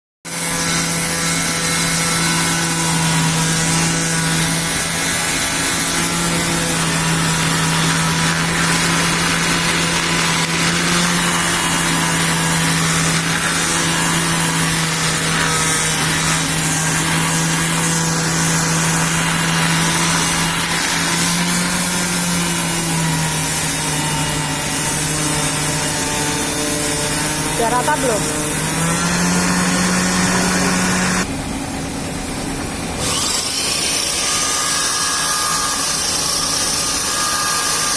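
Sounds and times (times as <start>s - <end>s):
power tool rasping wood: 0.3s - 31.3s, 33.0s - 37.9s.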